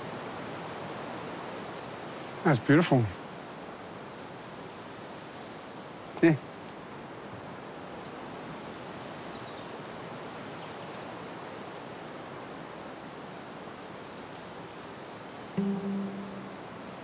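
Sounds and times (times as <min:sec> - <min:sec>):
forest ambience rushing hiss: 0:00.0 - 0:17.0.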